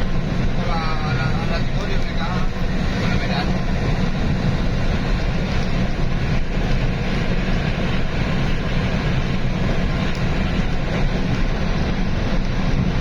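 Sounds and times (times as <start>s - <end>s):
diesel engine drone: 0.0s - 13.0s
tyre and road noise: 0.0s - 13.0s.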